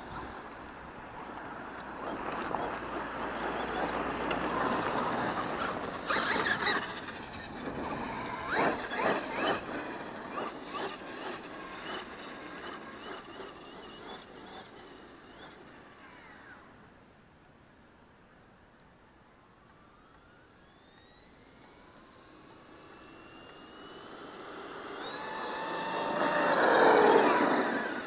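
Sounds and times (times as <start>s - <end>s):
rc truck electric motor whining: 0.0s - 16.7s, 19.6s - 28.0s.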